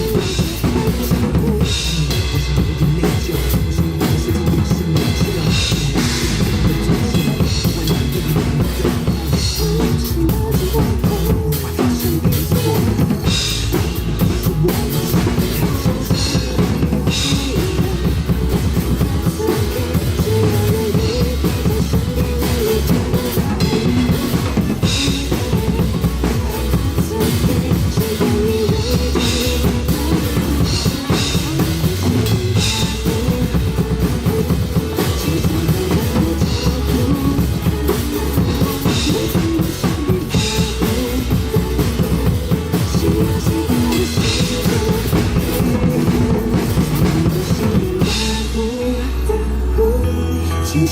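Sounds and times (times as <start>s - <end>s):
drum kit rock beat: 0.0s - 49.6s.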